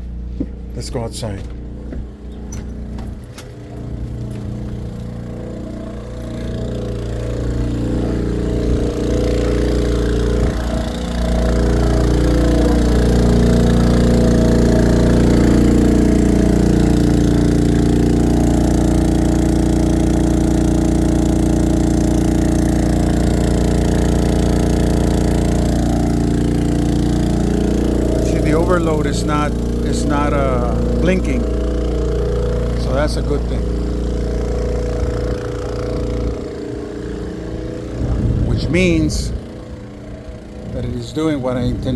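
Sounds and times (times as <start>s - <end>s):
generator droning: 0.0s - 41.9s.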